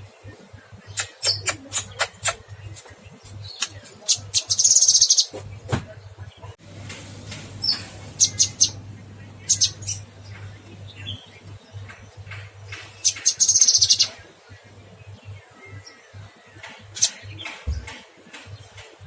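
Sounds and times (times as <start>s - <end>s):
songbird chattering: 0.0s - 6.5s, 7.6s - 19.0s.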